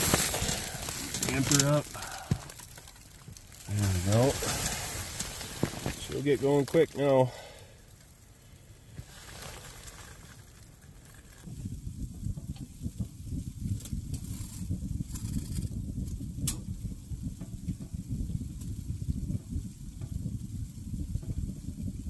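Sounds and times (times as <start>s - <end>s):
fire crackles and pops: 0.0s - 22.0s
stove fire low rumble: 0.0s - 22.0s.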